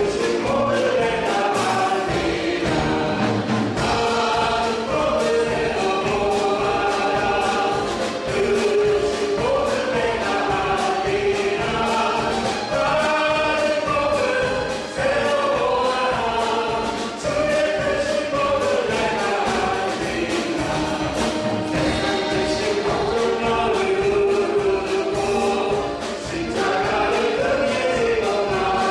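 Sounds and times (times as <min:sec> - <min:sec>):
group singing worship song: 0:00.0 - 0:28.9
instrumental accompaniment with beat: 0:00.0 - 0:28.9.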